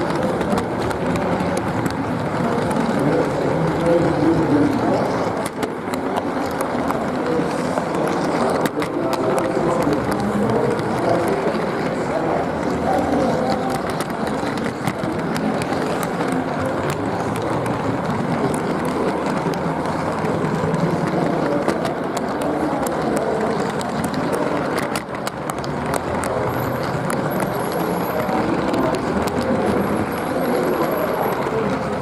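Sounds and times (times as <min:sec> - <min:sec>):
model train wheels clattering on rail: 0:00.0 - 0:32.0
sharp clicks of track: 0:00.0 - 0:32.0.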